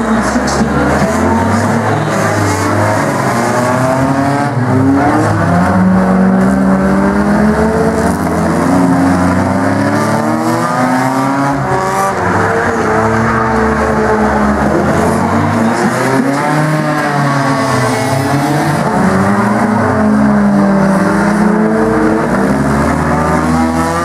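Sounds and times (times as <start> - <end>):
race car engines running hard: 0.0 - 24.0.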